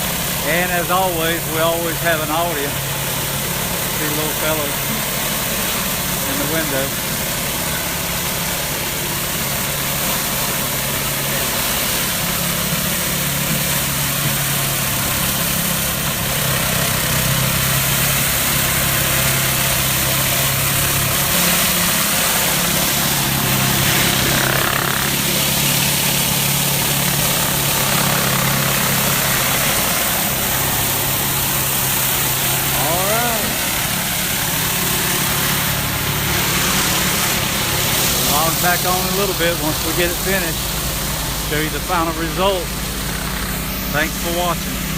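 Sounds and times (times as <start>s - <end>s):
high-pressure water spray hiss: 0.0s - 44.9s
pressure washer engine running: 0.0s - 44.9s.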